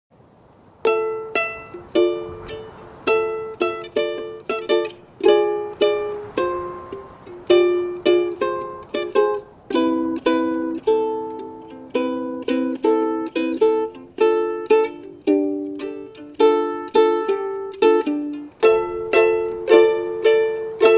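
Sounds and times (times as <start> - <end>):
plucked string chords: 0.8 - 20.9.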